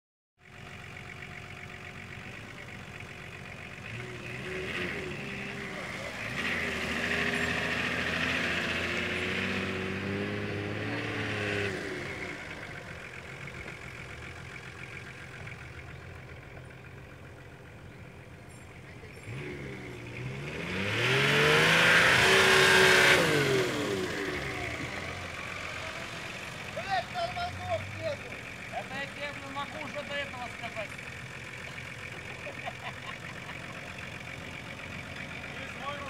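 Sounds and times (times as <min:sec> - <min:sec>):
off-road vehicle engine revving: 0:00.4 - 0:36.0.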